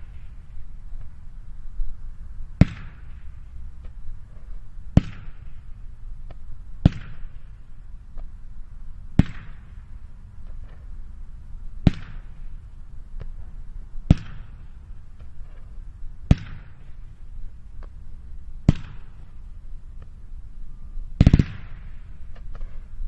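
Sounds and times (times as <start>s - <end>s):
fireworks cracks with hiss: 0.0s - 1.6s, 2.4s - 23.0s.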